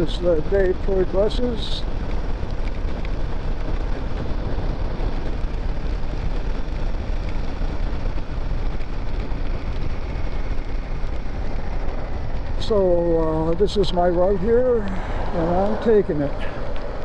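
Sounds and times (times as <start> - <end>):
motorcycle engine running: 0.0 - 17.0
wind over microphone: 0.0 - 17.0.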